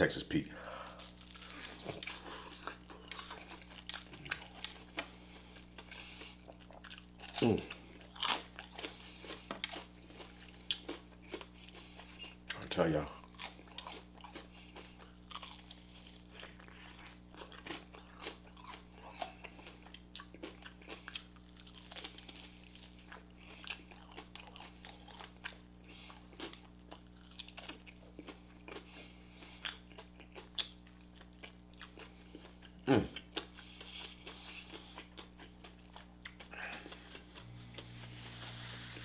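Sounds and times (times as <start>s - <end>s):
chewing crunchy fried food: 0.6s - 39.0s.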